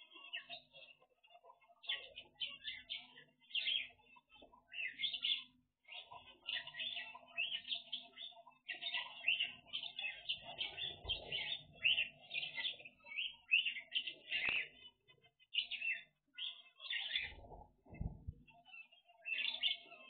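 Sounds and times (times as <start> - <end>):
cage birds chirping: 0.0 - 20.0.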